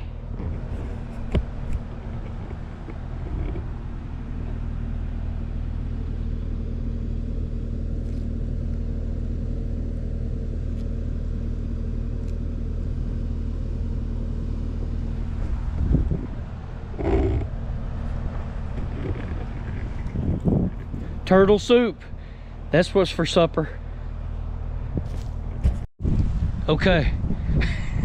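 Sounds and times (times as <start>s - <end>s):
skid steer engine humming: 0.0s - 25.9s.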